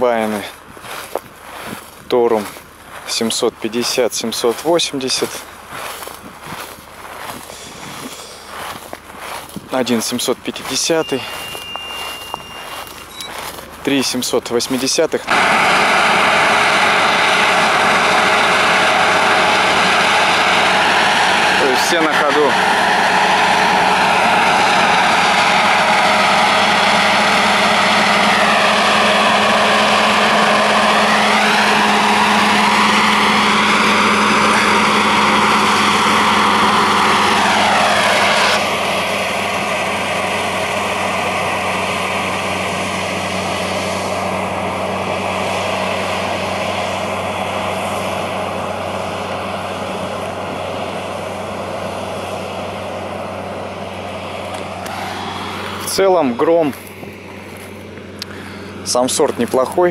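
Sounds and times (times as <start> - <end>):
combine harvester machinery drone: 0.0 - 59.9
high machine whine: 0.0 - 59.9.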